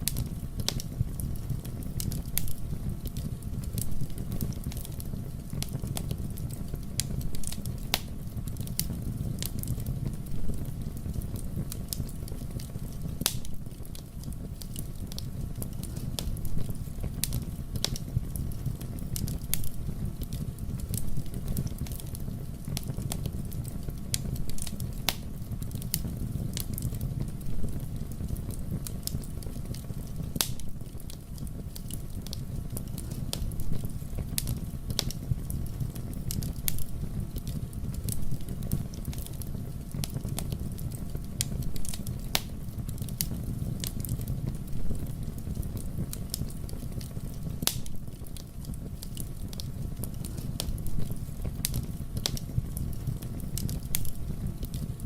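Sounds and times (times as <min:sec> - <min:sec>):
fire burning in fireplace: 0:00.0 - 0:55.0.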